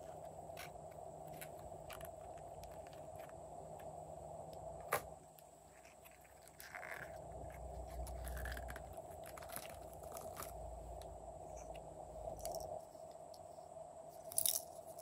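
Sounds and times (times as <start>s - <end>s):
soft crunching of slime: 0.0s - 13.4s.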